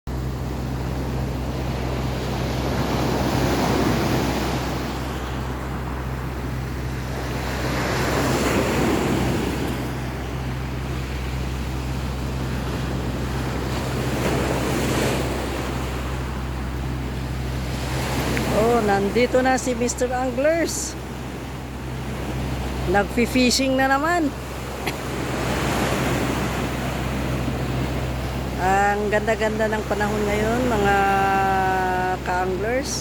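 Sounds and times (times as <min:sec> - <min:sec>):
sea waves washing onto shore: 0:00.1 - 0:33.0.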